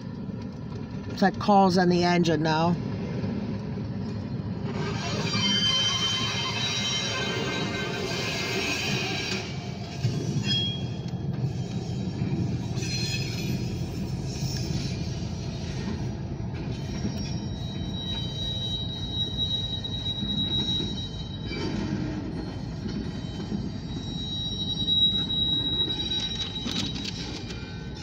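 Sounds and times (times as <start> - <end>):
freight train rumbling past: 0.0 - 26.4
train wheels squealing: 4.2 - 28.0.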